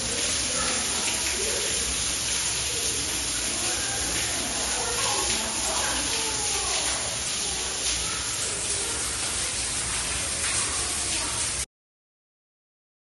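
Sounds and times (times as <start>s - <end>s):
faint indistinct voices: 0.0s - 11.7s.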